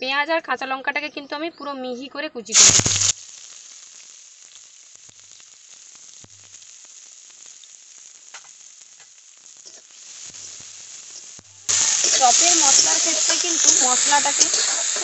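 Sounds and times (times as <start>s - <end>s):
faint crackles: 2.5s - 15.0s
onion sizzling in hot oil: 2.5s - 15.0s.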